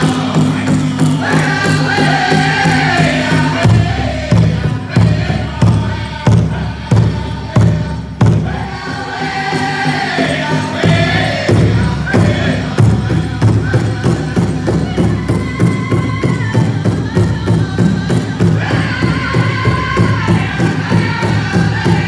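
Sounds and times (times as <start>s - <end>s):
big drum strikes: 0.0s - 22.0s
group singing in unison: 0.0s - 22.0s.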